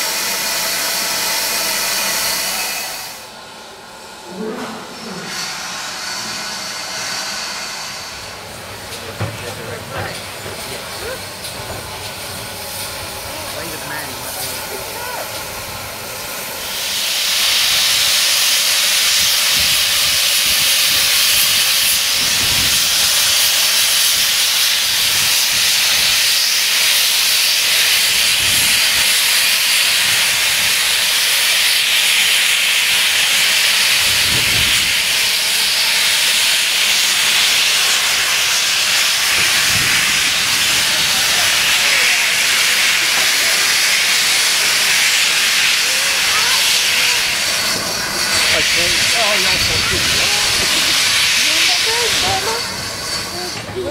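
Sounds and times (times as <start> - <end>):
locomotive steam hiss: 0.0 - 53.9.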